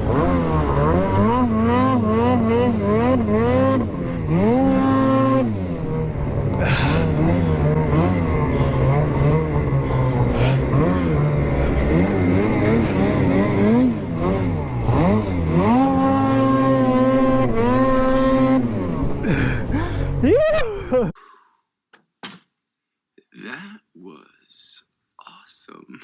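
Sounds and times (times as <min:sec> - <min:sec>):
snowmobile engine revving: 0:00.0 - 0:21.2.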